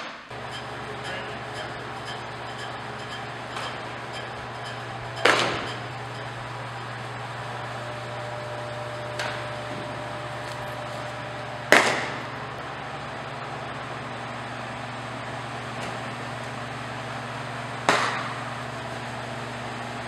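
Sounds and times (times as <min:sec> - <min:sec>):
ventilation hum: 0:00.3 - 0:20.0.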